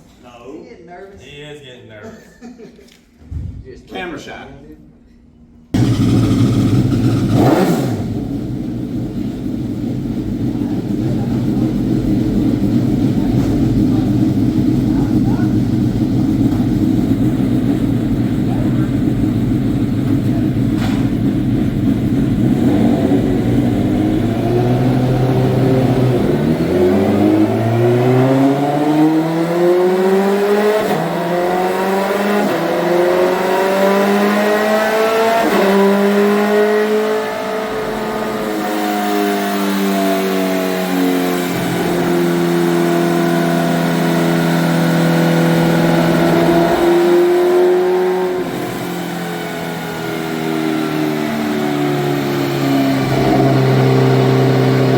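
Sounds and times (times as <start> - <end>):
engine revving on dyno: 5.8 - 54.9.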